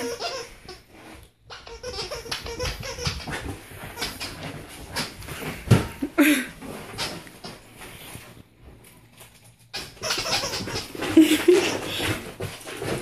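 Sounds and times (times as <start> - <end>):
scuffling and rustling: 2.2 - 13.0.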